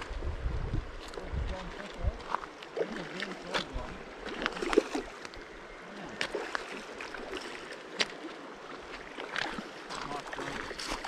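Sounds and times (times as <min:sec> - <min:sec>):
river running over gravel: 0:00.0 - 0:11.0.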